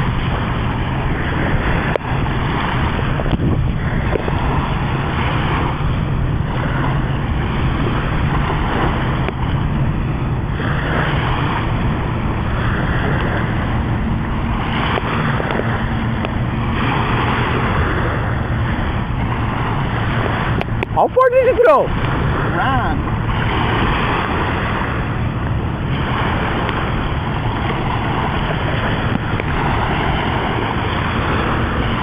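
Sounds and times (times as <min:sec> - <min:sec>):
steady low hum: 0:00.0 - 0:32.0
surf washing on beach: 0:00.0 - 0:32.0
wind rumbling on microphone: 0:00.0 - 0:32.0.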